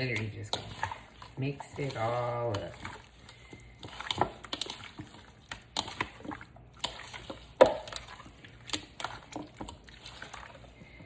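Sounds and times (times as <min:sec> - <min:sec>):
wet squelches of mixing chicken: 0:00.0 - 0:11.0.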